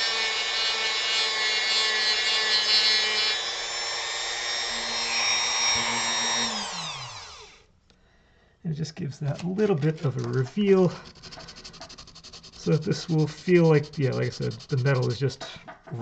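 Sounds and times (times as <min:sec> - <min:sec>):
rotary tool carving wood: 0:00.0 - 0:07.6, 0:09.6 - 0:15.6.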